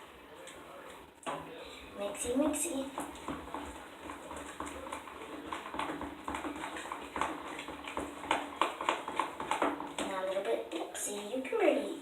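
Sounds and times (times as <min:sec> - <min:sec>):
spoon stirring slime: 0:00.0 - 0:11.9.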